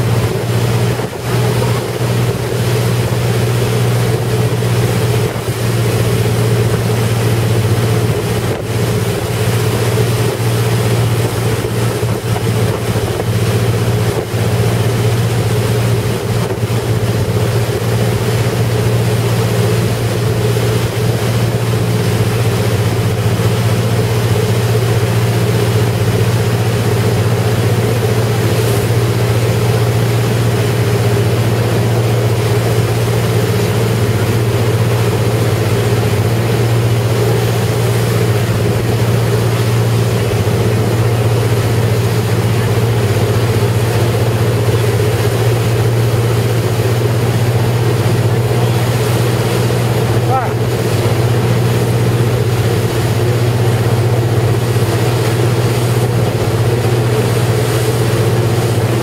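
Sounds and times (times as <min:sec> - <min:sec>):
motorboat engine running: 0:00.0 - 0:59.0
water rushing past hull: 0:00.0 - 0:59.0.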